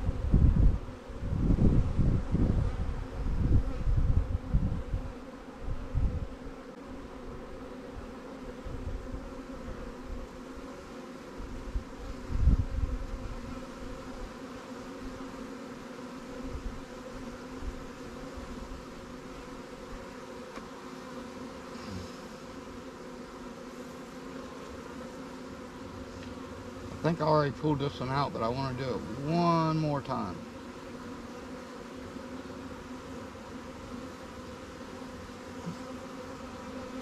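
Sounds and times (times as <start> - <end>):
honey bees buzzing: 0.0 - 37.0.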